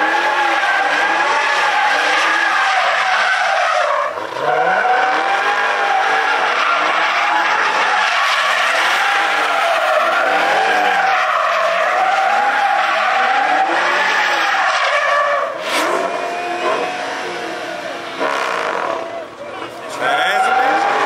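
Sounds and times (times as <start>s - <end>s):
car engine at high revs: 0.0s - 21.0s
tires squealing and skidding: 0.0s - 21.0s.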